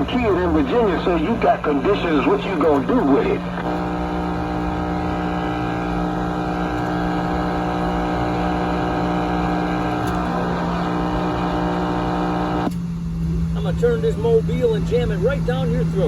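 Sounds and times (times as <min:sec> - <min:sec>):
buzzing tone over radio: 0:00.0 - 0:13.8.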